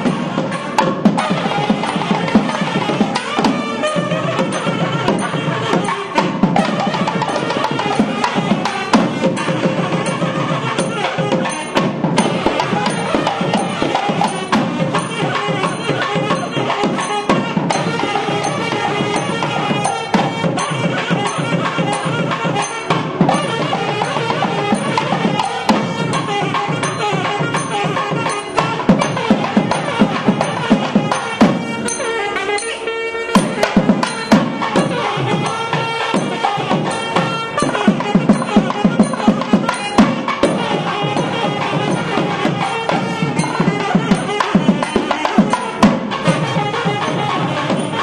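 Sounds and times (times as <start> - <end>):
barrel drum beating fast rhythm: 0.0 - 32.6, 33.3 - 48.0.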